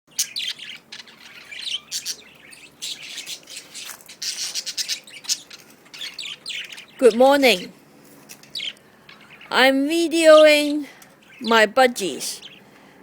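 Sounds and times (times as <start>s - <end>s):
budgerigars chirping: 0.1s - 7.7s, 8.4s - 12.8s.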